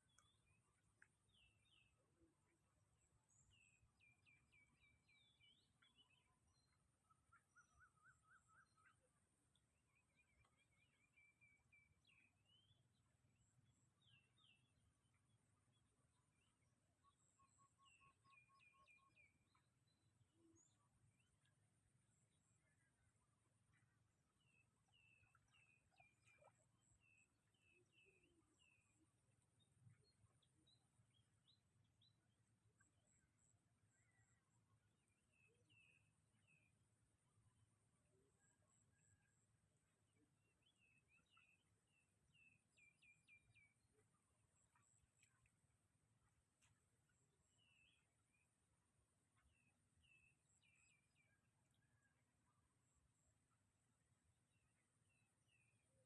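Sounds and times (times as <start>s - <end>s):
faint birdsong chirps: 0.0s - 56.0s.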